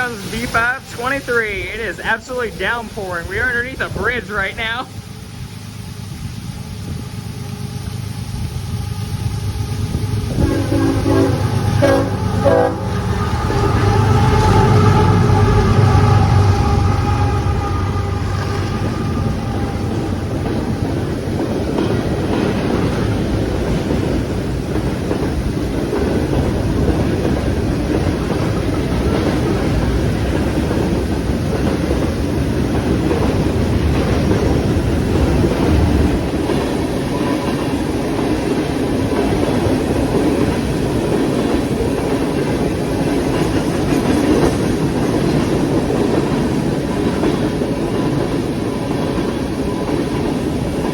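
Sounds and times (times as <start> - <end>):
heavy rain: 0.0 - 50.9
train wheels clacking over rails: 7.0 - 50.9.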